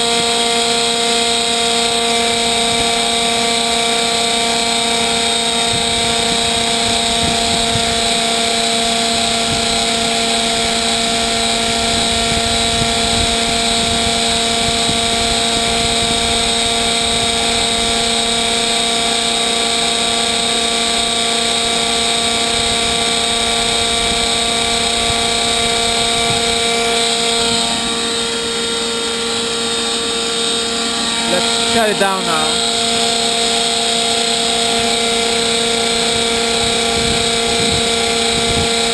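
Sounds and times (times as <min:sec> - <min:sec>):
gas turbine running: 0:00.0 - 0:38.9.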